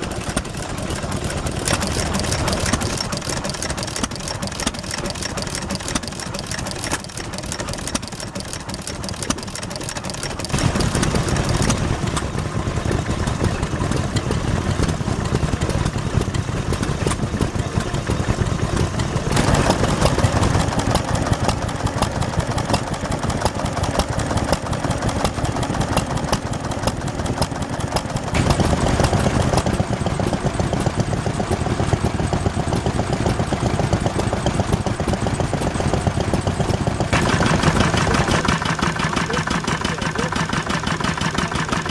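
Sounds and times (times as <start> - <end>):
stationary engines idling: 0.0 - 41.9.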